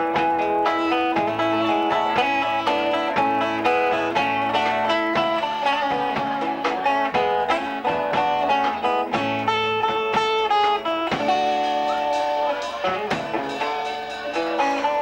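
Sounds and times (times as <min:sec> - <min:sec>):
country band playing: 0:00.0 - 0:15.0
guitar solo: 0:00.0 - 0:15.0.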